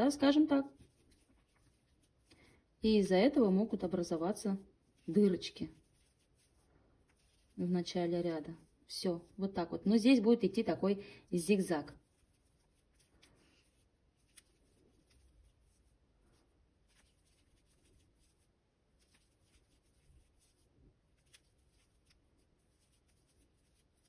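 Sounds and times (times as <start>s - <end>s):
yarn rustling: 0.0s - 9.8s, 11.5s - 24.0s.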